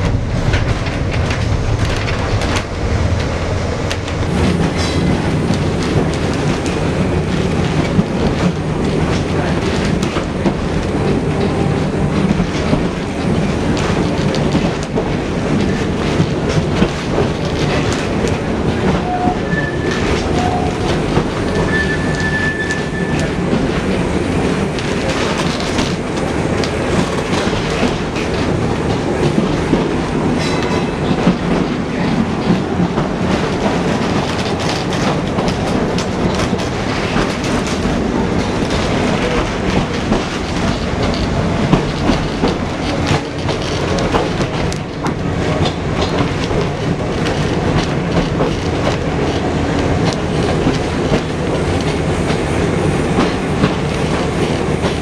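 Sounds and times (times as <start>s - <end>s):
tram wheels rumbling: 0.0s - 55.0s.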